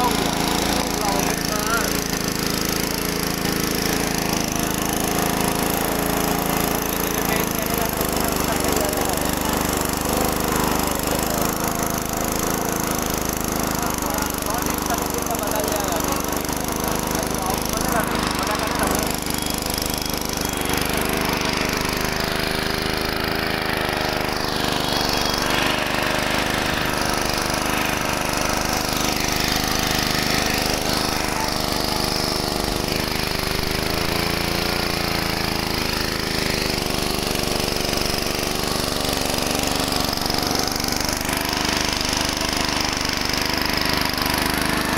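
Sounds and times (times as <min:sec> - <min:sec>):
flour mill grinding: 0:00.0 - 0:44.9.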